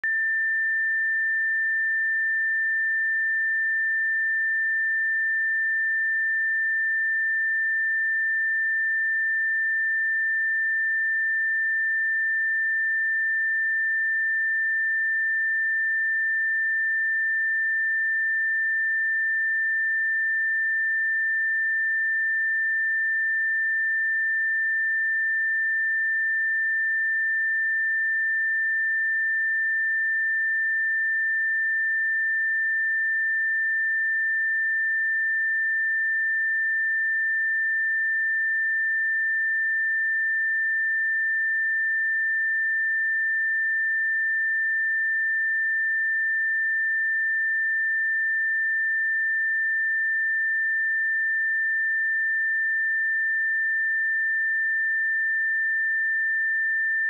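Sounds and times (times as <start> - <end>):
high sine-wave test tone: 0.0 - 57.0.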